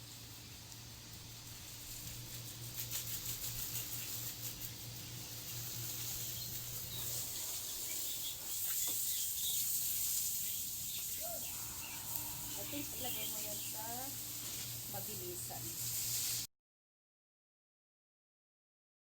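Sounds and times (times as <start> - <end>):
steady outdoor hiss: 0.0 - 16.5.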